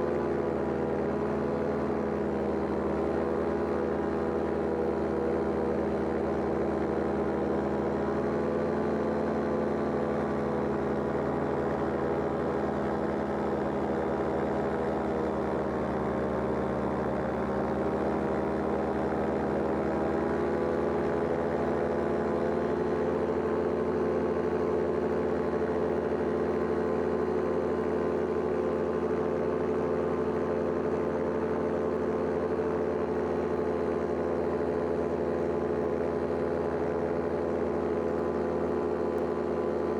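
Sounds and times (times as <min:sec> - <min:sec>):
paraglider engine and propeller: 0:00.0 - 0:39.9.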